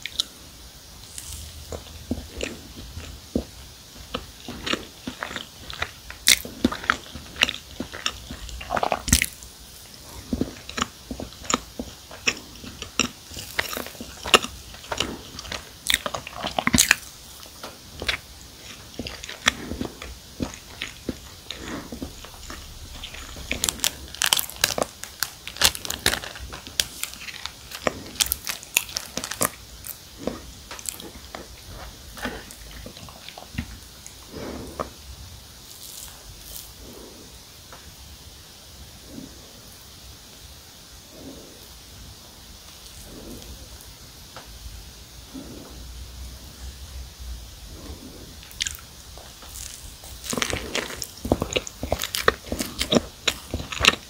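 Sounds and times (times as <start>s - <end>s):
chewing and biting cookies: 0.0s - 38.0s, 38.9s - 39.6s, 41.0s - 41.8s, 42.5s - 44.6s, 45.2s - 54.0s.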